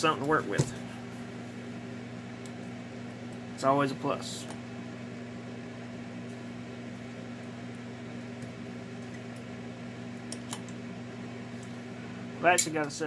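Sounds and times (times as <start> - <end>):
toy train electrical hum: 0.0 - 13.0.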